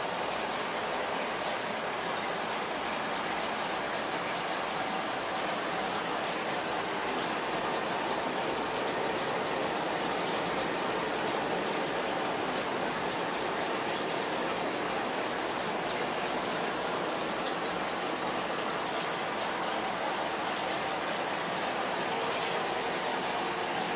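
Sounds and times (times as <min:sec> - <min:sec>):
bubbles streaming: 0:00.0 - 0:23.9
water splashing and trickling: 0:00.0 - 0:23.9.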